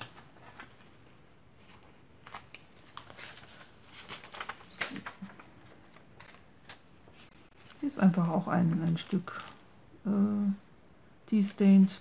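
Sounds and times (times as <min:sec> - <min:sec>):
paper pages rustling: 0:00.0 - 0:09.7.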